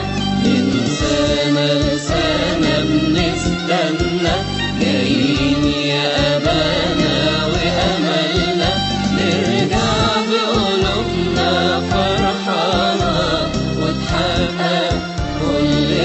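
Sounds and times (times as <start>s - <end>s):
chanted vocal melody: 0.0s - 16.0s
instrumental backing with low rhythm: 0.0s - 16.0s.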